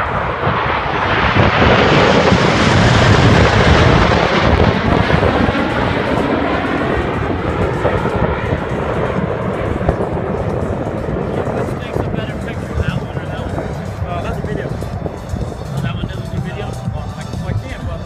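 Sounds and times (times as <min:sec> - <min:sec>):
airplane flying past: 0:00.0 - 0:18.0.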